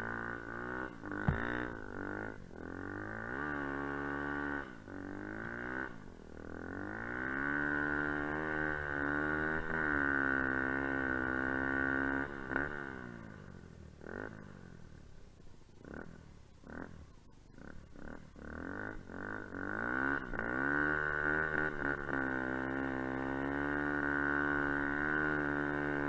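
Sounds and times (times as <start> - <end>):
dirt bike engine revving: 0.0 - 14.9, 17.6 - 26.0.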